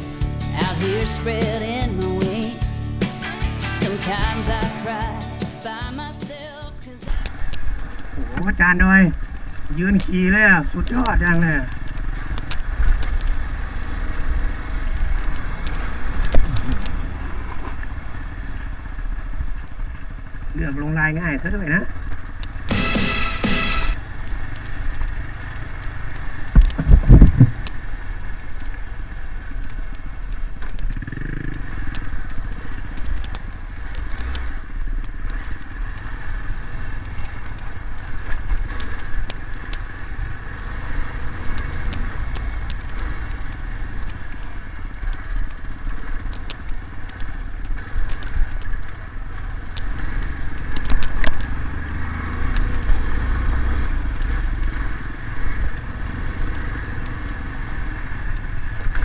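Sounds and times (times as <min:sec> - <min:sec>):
motorcycle engine running: 0:00.0 - 0:59.0
wind and tyre noise: 0:07.0 - 0:22.7, 0:23.6 - 0:59.0.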